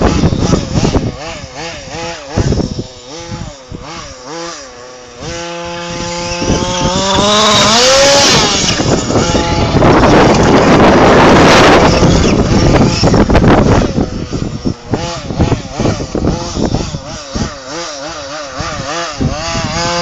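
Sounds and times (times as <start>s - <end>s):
rc car engine revving: 0.0s - 20.0s
wind buffeting microphone: 0.0s - 20.0s.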